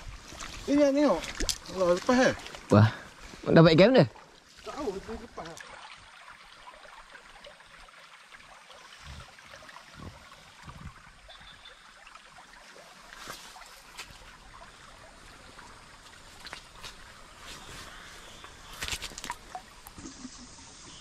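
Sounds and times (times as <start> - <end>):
stream trickling over gravel: 0.0 - 21.0.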